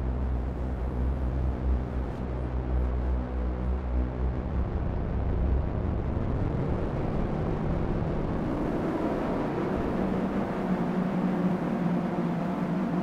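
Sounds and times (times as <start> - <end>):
engine low hum: 0.0 - 13.0.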